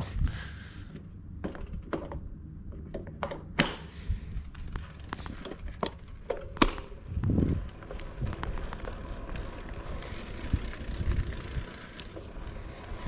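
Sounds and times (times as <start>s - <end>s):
bike drivetrain clicks and knocks: 0.7s - 13.0s.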